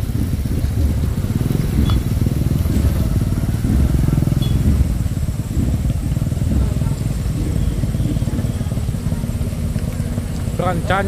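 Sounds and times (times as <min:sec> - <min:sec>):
vehicle engine running loudly: 0:00.0 - 0:11.0.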